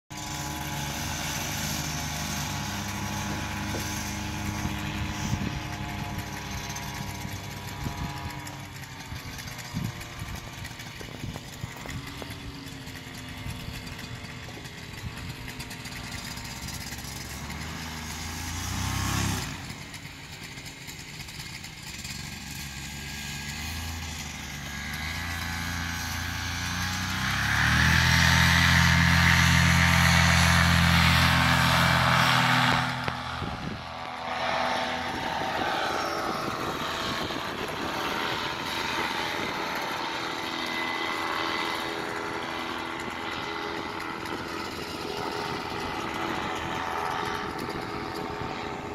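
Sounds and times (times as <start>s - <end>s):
paramotor engine running: 0.1s - 48.9s.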